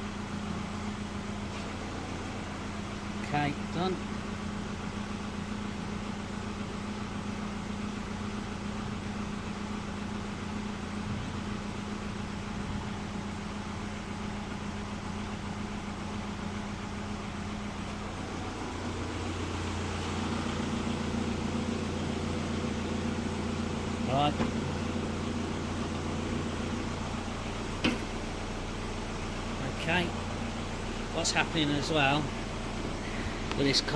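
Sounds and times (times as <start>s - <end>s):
low mechanical hum: 0.0s - 33.9s.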